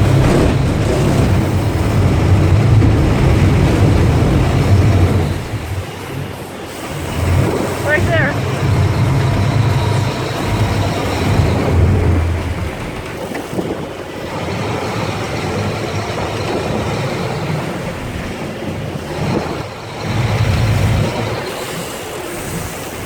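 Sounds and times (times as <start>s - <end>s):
boat engine humming: 0.0s - 23.0s
rushing noise: 0.0s - 23.0s.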